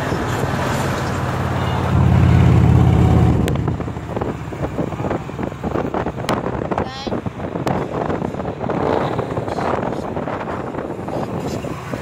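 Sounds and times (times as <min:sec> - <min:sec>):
motorcycle exhaust while cruising: 0:00.0 - 0:12.0
road noise: 0:00.0 - 0:12.0
wind: 0:00.0 - 0:12.0.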